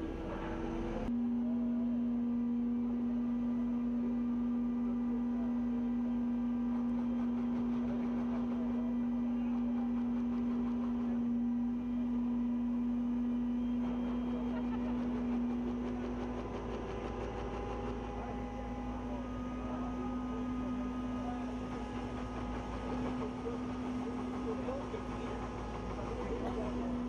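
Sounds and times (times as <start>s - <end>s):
crane engine hum: 0.0s - 27.0s.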